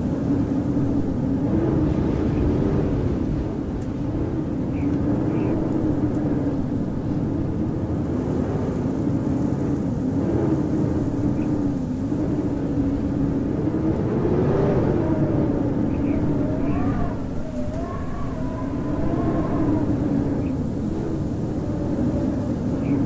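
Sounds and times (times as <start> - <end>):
howling wind: 0.0 - 23.0.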